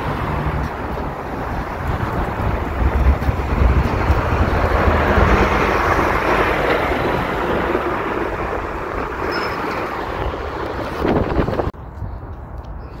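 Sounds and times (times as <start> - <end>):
vehicle passing: 0.0 - 11.7
street traffic: 0.0 - 13.0
wind on microphone: 0.0 - 13.0.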